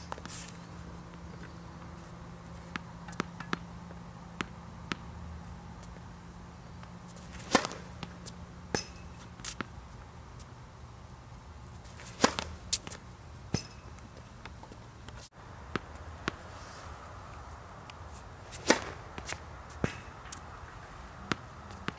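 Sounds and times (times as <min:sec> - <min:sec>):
steady low hum: 0:00.0 - 0:21.9
tennis balls bouncing on court: 0:00.9 - 0:09.8, 0:11.8 - 0:16.5, 0:17.4 - 0:21.9.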